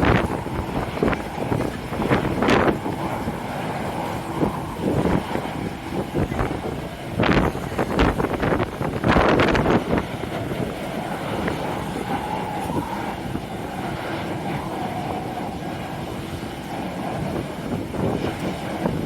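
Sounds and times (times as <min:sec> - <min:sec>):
faint engine whine: 0:00.0 - 0:19.0
jet aircraft rumble: 0:00.0 - 0:19.0
wind buffeting microphone: 0:00.0 - 0:19.0.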